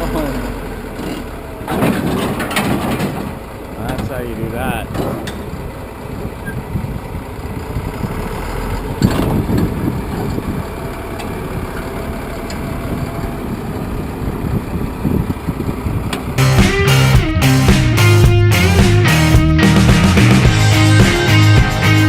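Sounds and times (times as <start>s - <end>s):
heavy machine engine running: 0.0s - 22.0s.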